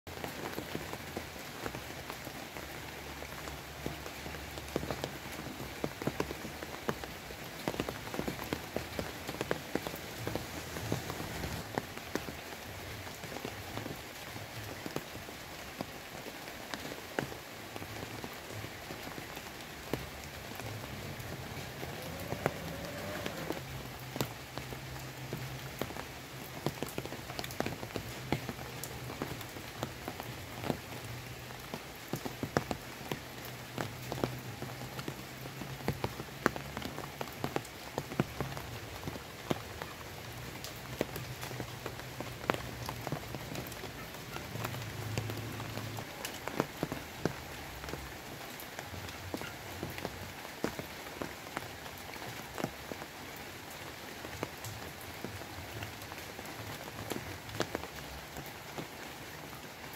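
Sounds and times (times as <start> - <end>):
rain hissing: 0.1 - 49.1
drops ticking on wet leaves: 0.1 - 59.9.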